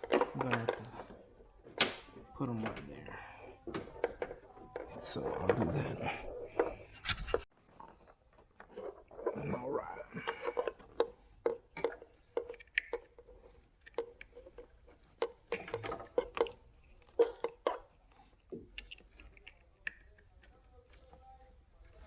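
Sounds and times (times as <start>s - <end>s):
plastic parts clicking and knocking: 0.0s - 22.0s.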